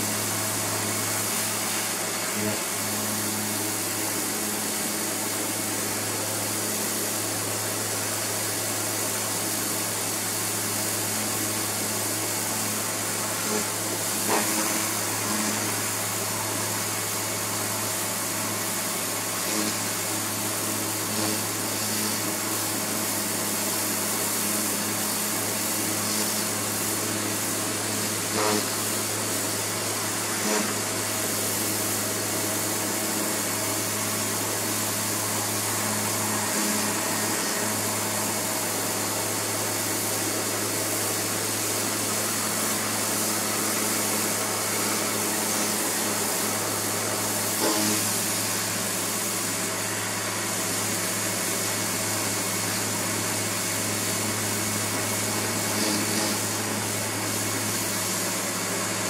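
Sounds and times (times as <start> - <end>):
pressure washer motor hum: 0.0 - 59.0
water jet hissing on plastic: 0.0 - 59.0.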